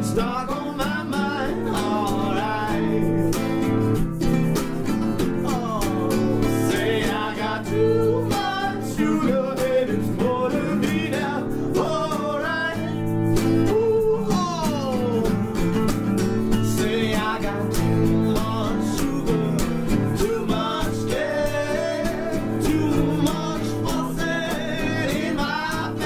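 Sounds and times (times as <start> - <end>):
acoustic guitars strumming chords: 0.0 - 26.0
sliding guitar melody: 0.0 - 26.0.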